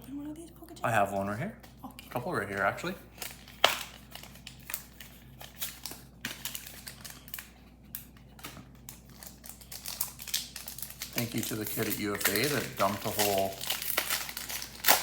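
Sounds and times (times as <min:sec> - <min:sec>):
wrapper and cards crinkling: 0:02.2 - 0:15.0.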